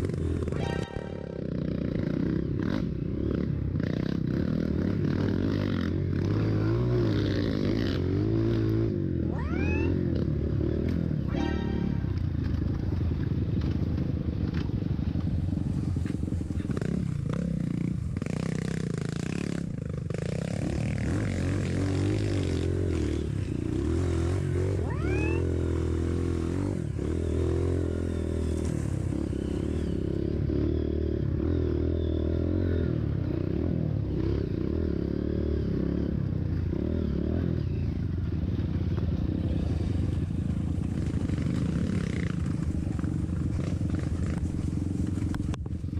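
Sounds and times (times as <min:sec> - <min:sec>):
dirt bike engine: 0:00.0 - 0:45.9.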